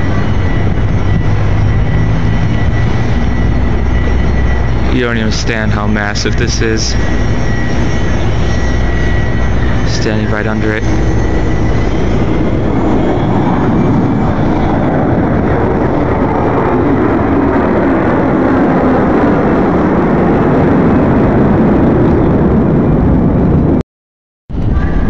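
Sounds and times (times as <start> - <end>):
jet aircraft rumble: 0.0 - 23.8, 24.5 - 25.0.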